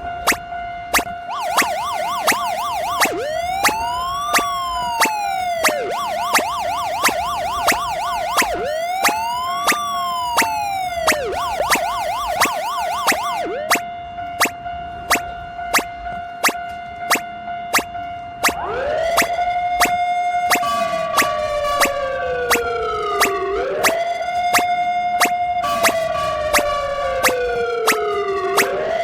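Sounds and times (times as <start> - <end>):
electronic siren yelp and wail: 0.0 - 13.8, 15.1 - 17.8, 18.4 - 29.0
railroad crossing alarm ringing: 0.0 - 29.0.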